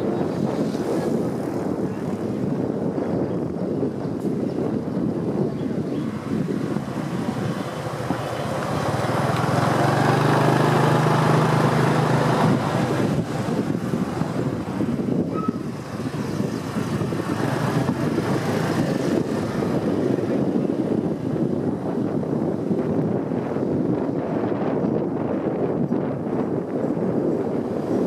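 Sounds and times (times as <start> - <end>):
motorbike engine hum: 0.0 - 28.0
traffic noise: 0.0 - 28.0
wind buffeting microphone: 0.0 - 28.0.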